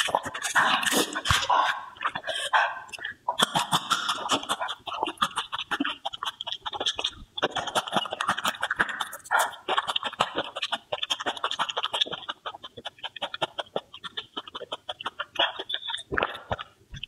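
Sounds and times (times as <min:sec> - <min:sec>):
chewing and wet mouth sounds: 0:00.0 - 0:17.0.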